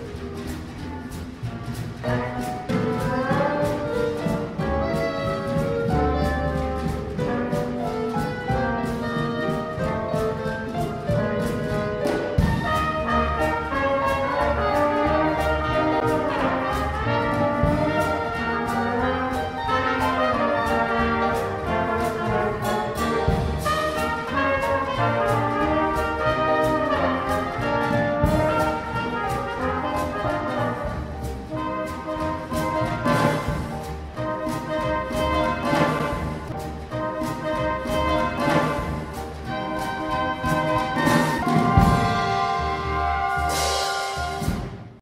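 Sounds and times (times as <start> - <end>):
jazz band playing: 0.0 - 45.0.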